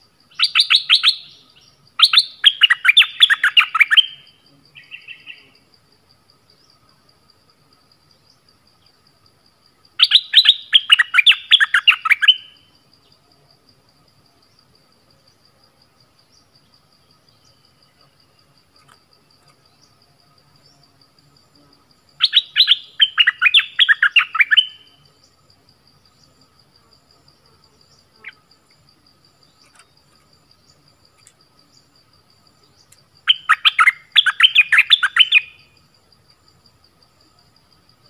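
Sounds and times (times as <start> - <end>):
fast insect trill: 0.0 - 38.0
songbird chirping: 0.1 - 38.0.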